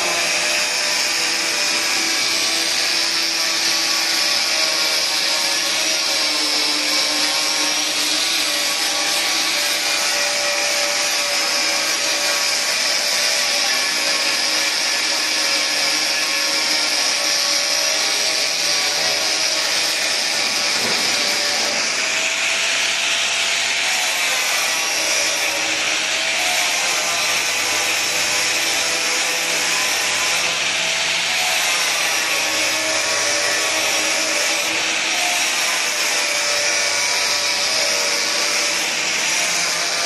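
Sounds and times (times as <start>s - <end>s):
polishing machine whirring: 0.0s - 40.0s.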